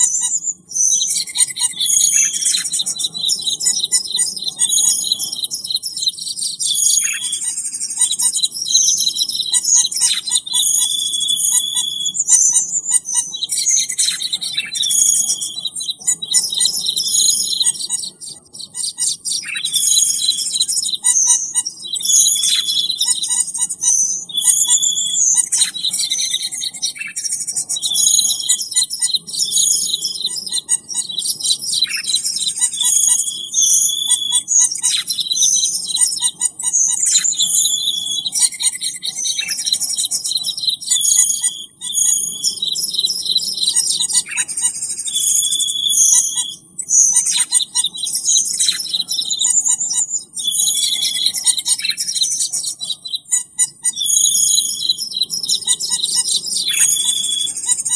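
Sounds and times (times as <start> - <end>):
falling whistled bird notes: 0.0 - 18.1, 18.8 - 23.2, 23.8 - 27.2, 31.0 - 49.5, 50.4 - 52.5, 53.9 - 57.8
bird chirping and trilling: 0.0 - 57.9.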